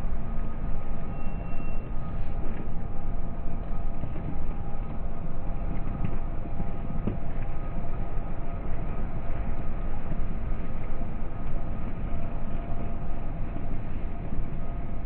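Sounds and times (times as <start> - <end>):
steel wheels rumbling on rails: 0.0 - 15.0
thin steady whine: 0.0 - 15.0.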